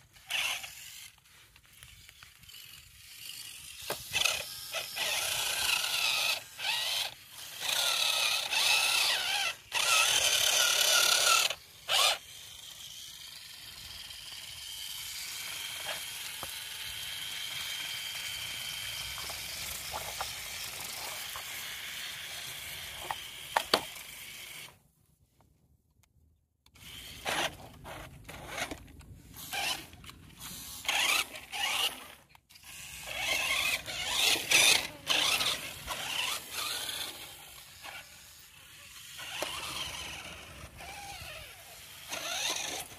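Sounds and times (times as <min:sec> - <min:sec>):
wheel spinning in sand: 0:00.0 - 0:24.6, 0:26.8 - 0:42.9
toy car motors whining: 0:00.0 - 0:24.8, 0:26.6 - 0:42.9.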